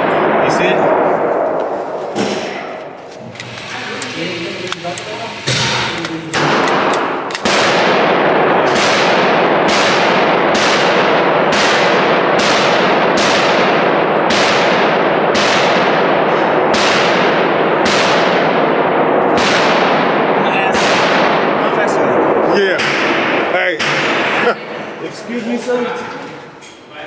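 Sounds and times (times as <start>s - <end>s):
gunshots with ringing echo: 0.0s - 2.8s, 4.0s - 24.9s.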